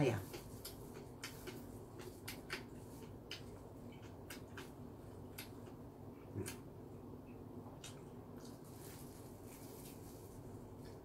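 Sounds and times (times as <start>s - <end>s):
person chewing food: 0.2s - 11.0s.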